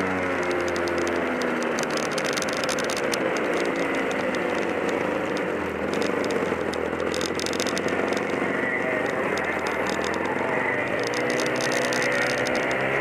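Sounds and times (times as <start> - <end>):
kart engine running: 0.0 - 13.0
rattling: 0.2 - 13.0.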